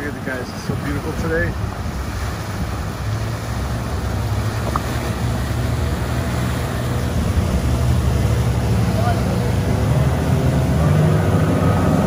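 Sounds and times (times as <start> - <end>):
outboard motors droning: 0.0 - 12.0
water rushing past hull: 0.0 - 12.0.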